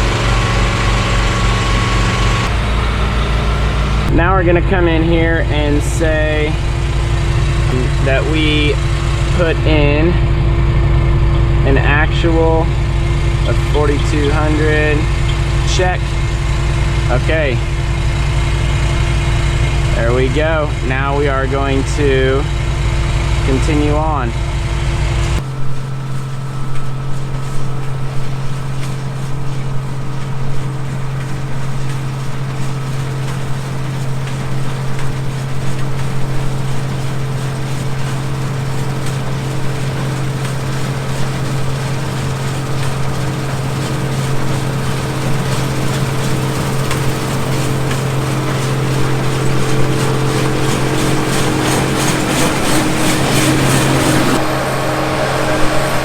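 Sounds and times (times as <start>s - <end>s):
low engine hum: 0.0s - 56.0s
threshing machinery rushing: 0.0s - 56.0s.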